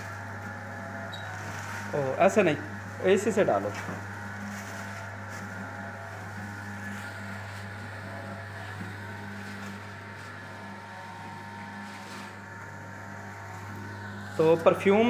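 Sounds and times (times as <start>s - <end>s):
mixer machine motor hum: 0.0s - 15.0s.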